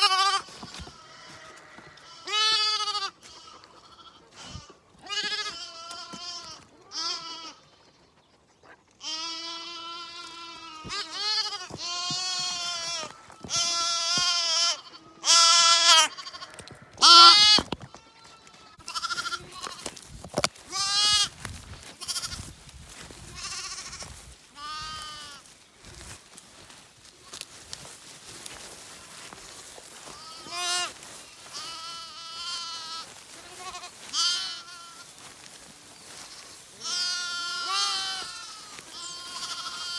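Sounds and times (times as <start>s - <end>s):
lambs bleating: 0.0s - 7.8s, 9.0s - 19.9s, 20.5s - 26.0s, 28.6s - 35.3s, 36.0s - 39.9s.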